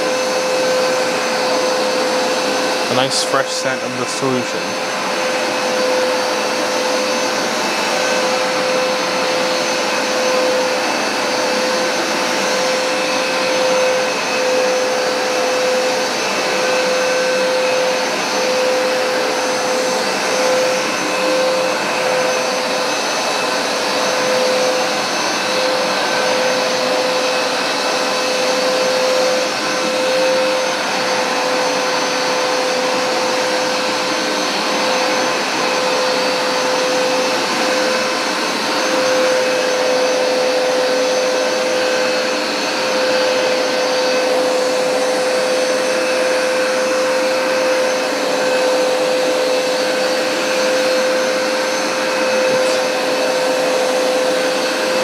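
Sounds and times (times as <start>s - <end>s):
carpet cleaner motor whining: 0.0s - 3.2s, 3.8s - 55.0s.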